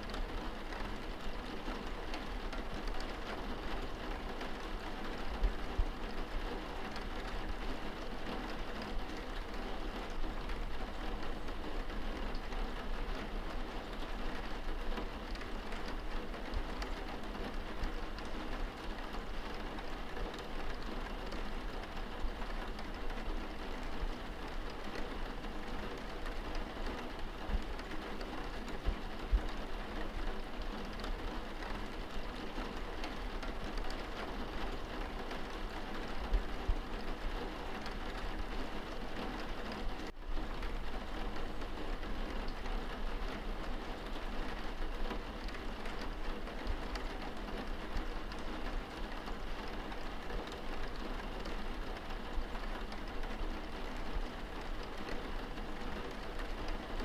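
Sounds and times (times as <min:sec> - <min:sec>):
rain pattering on window glass: 0:00.0 - 0:57.0.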